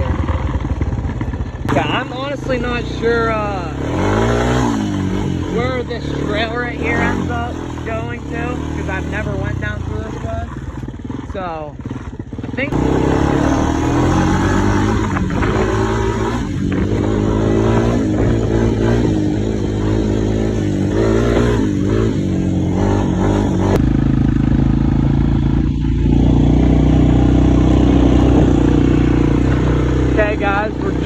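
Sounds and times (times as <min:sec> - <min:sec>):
atv engine running under load: 0:00.0 - 0:31.0.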